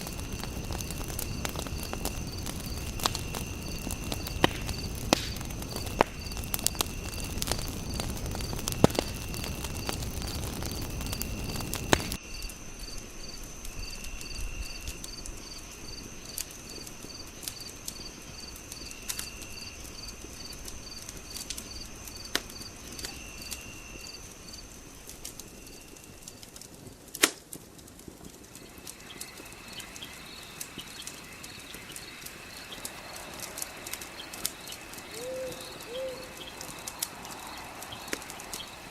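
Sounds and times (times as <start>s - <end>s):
insect trills: 0.0s - 26.7s, 28.2s - 38.9s
insects chirping: 0.0s - 26.9s, 28.2s - 38.9s
wood fire crackling and popping: 0.0s - 38.9s.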